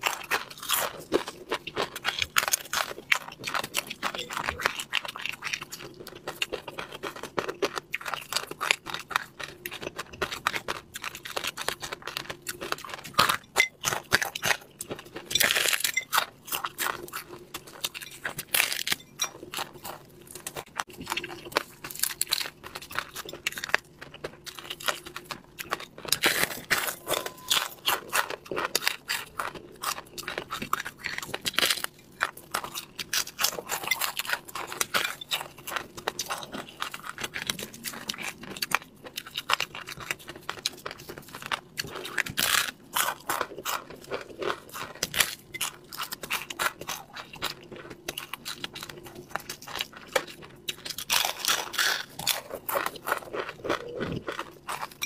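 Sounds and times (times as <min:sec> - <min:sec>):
crunching fried fish: 0:00.0 - 0:55.0.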